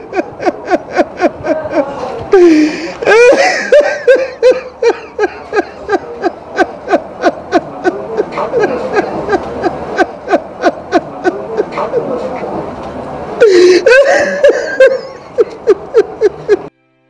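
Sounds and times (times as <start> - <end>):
person laughing hard: 0.0 - 12.2, 13.4 - 16.7.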